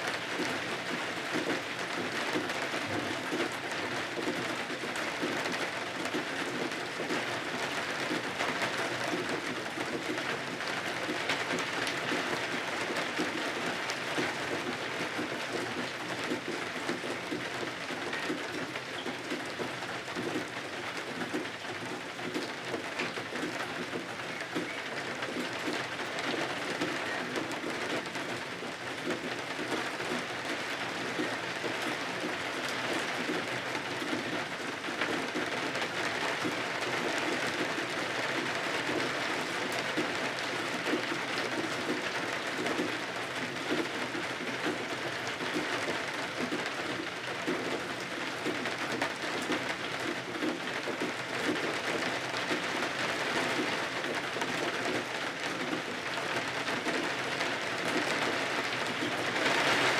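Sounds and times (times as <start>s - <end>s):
rain on windows: 0.0s - 59.9s.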